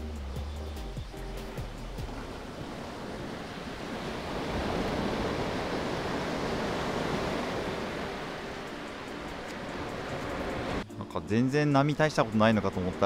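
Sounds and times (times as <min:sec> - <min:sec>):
sea surf washing on beach: 0:01.5 - 0:10.8, 0:11.6 - 0:13.0.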